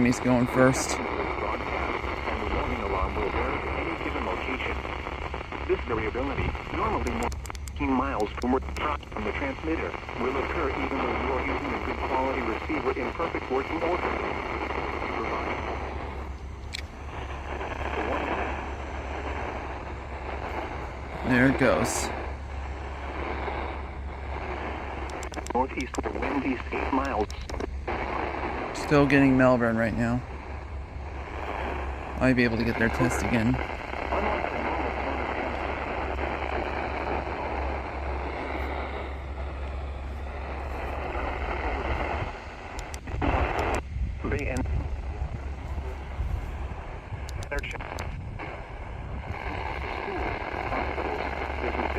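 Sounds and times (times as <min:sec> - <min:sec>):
faint broadcast voice: 0:00.0 - 0:51.9
low hum: 0:00.0 - 0:51.9
radio static hiss: 0:00.0 - 0:51.9.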